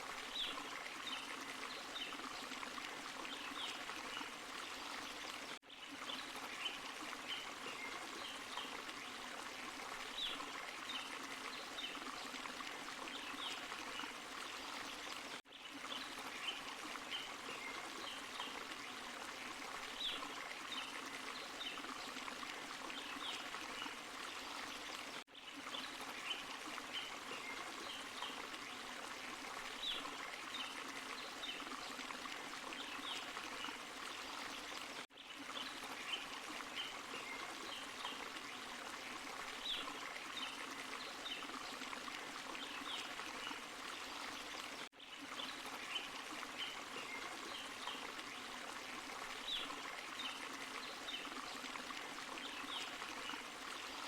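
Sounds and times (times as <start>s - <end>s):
stream and small waterfall rushing: 0.0s - 54.0s.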